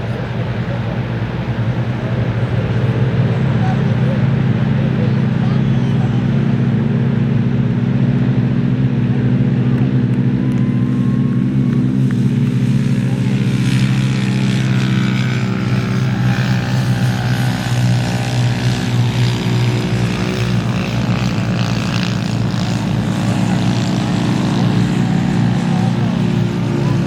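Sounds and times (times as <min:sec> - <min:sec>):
engine droning: 0:00.0 - 0:27.0.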